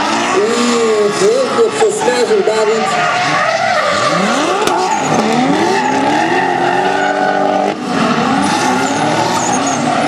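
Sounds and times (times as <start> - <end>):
car engines revving hard: 0.0 - 10.0.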